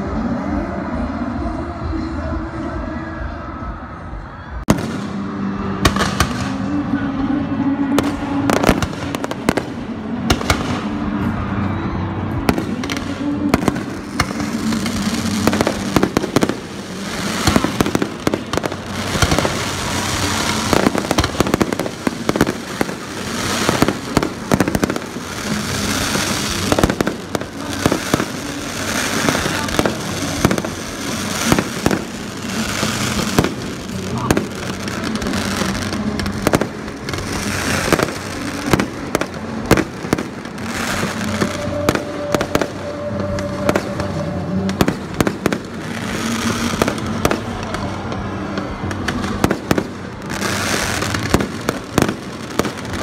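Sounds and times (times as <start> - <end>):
fireworks bursting with bangs: 4.6 - 7.0, 7.8 - 53.0
fireworks crackling: 4.6 - 53.0.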